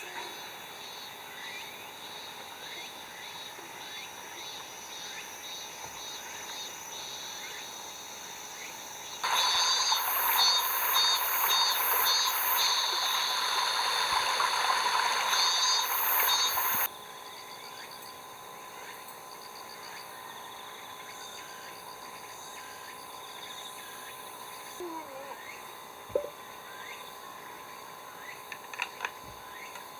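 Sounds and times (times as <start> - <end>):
insects chirping: 0.0 - 29.9
loud dense insect chorus: 0.0 - 29.9.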